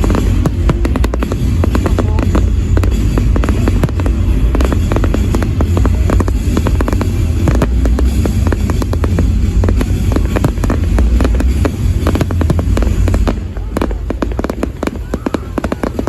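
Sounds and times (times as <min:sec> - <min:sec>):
fireworks crackling and banging: 0:00.0 - 0:16.0
low rumble: 0:00.0 - 0:16.0.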